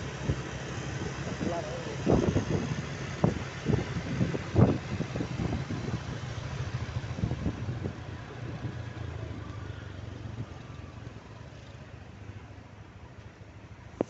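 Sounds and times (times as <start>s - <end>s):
road noise: 0.0s - 14.0s
vehicle engine rumbling: 0.0s - 14.0s.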